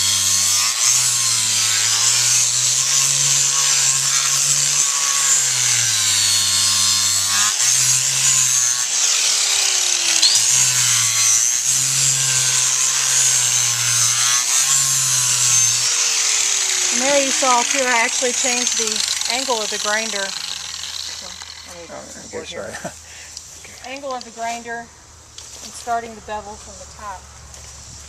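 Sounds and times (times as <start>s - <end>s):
power grinder grinding hoof: 0.0s - 24.8s, 25.4s - 28.0s.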